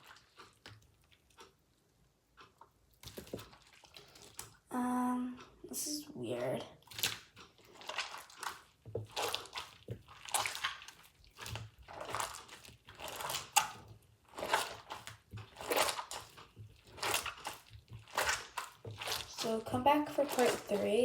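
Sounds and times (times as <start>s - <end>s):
slime squelching: 0.0s - 21.0s.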